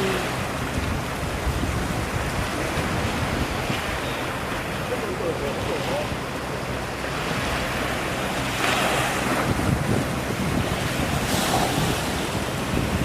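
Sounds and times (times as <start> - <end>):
rushing sea water: 0.0 - 13.0
wind buffeting microphone: 0.0 - 13.0.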